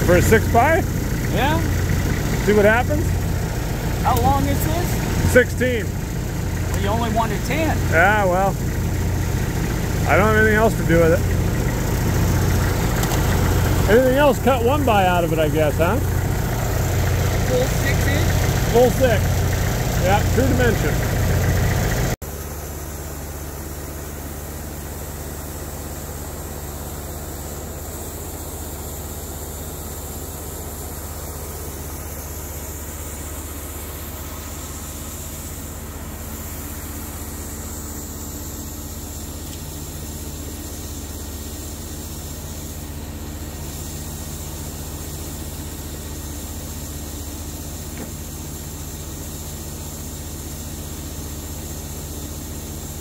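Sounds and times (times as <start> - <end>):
engine humming steadily: 0.0 - 53.0.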